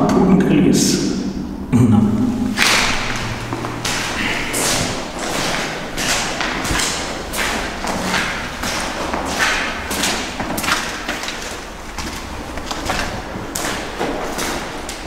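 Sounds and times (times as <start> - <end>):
footsteps on dirt floor: 2.8 - 15.0.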